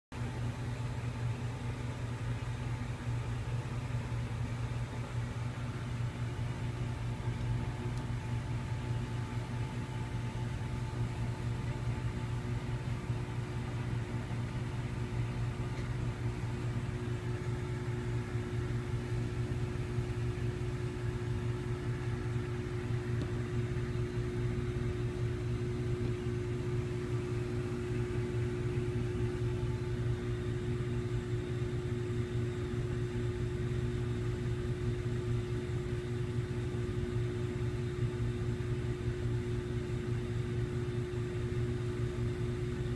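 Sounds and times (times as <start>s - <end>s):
low mechanical hum: 0.1s - 42.9s.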